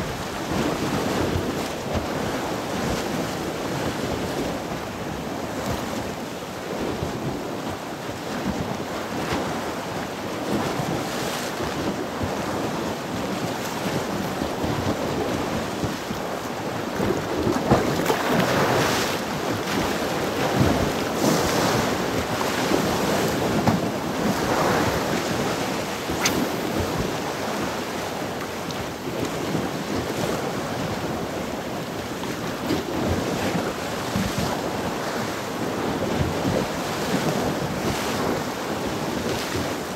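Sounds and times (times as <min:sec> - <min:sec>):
sea waves washing in: 0:00.0 - 0:39.9
wind buffeting microphone: 0:00.0 - 0:39.9.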